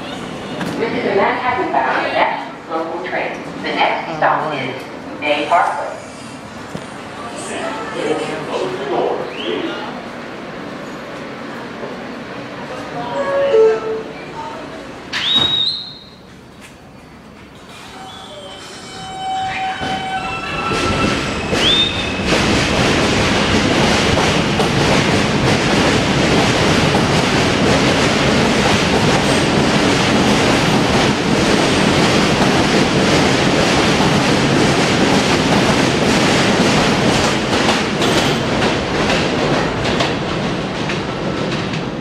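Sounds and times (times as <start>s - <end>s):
subway train rumbling past: 0.0s - 42.0s.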